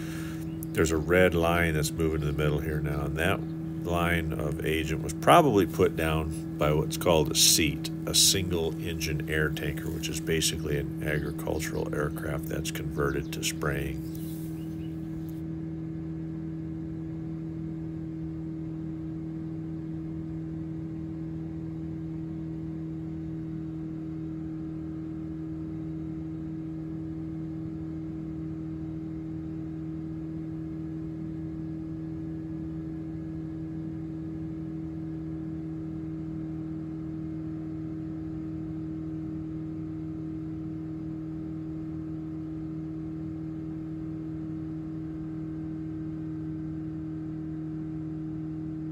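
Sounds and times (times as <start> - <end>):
propeller airplane engine droning: 0.0 - 48.9.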